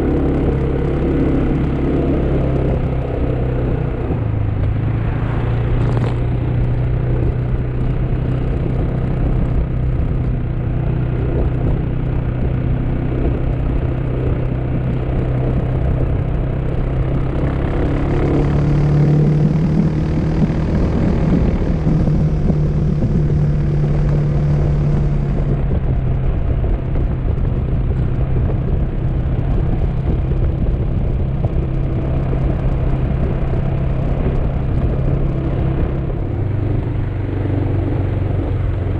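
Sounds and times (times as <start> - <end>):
motor scooter engine droning: 0.0 - 38.9
road and wind noise: 0.0 - 38.9.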